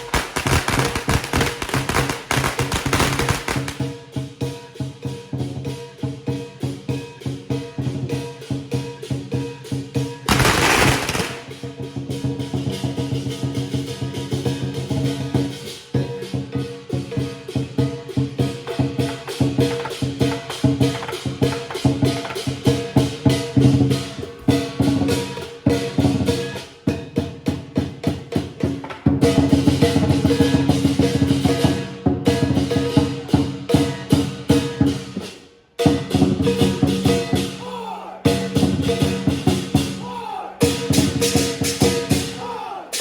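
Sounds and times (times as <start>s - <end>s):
cymbals crashing: 0.0s - 5.8s, 6.6s - 26.8s, 29.2s - 43.0s
large drum beaten fast: 0.0s - 43.0s.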